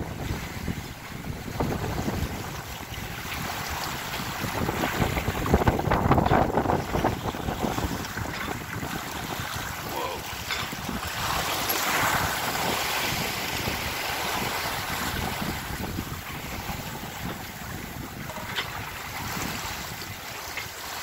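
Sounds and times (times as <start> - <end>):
breaking seas rushing: 0.0 - 21.0
wind buffeting microphone: 0.0 - 21.0.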